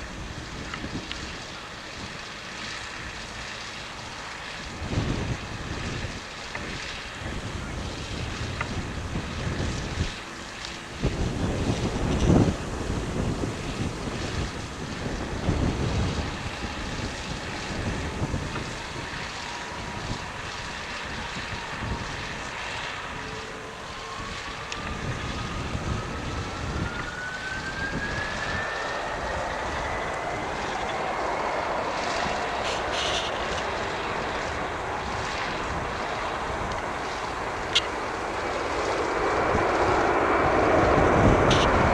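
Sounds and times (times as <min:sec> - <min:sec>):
jet engines whining: 0:00.0 - 0:41.9
wind on microphone: 0:00.0 - 0:41.9.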